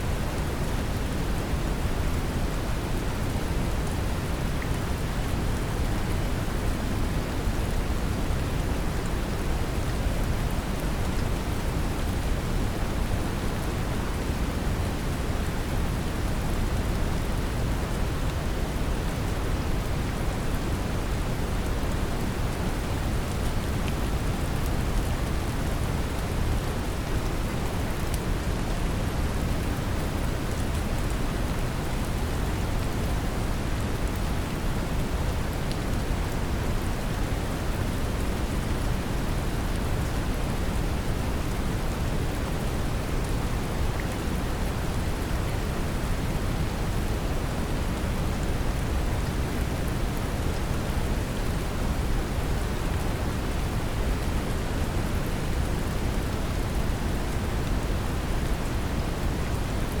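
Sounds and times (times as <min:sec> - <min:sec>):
brown noise hiss: 0:00.0 - 1:00.0
gentle rain: 0:00.0 - 1:00.0.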